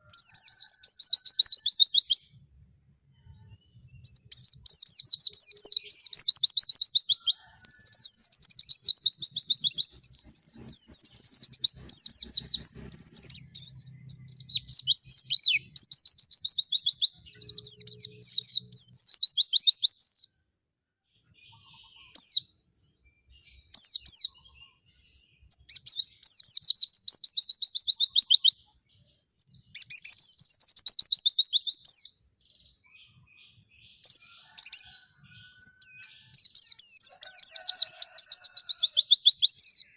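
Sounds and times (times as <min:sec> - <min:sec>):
bird twittering song: 0:00.0 - 0:20.5, 0:21.1 - 0:39.9.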